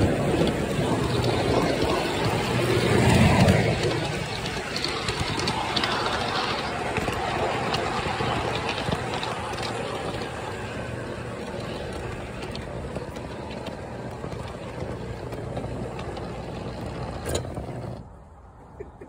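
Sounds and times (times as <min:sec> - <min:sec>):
low motor hum: 0:00.0 - 0:18.2
model train wheels rumbling on rail: 0:00.0 - 0:18.4.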